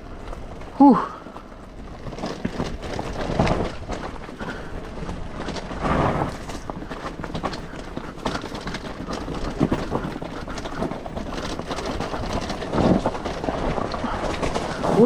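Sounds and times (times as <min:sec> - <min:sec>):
dirt bike engine: 0:00.0 - 0:15.0
knocks and clatter over rough ground: 0:00.0 - 0:15.0.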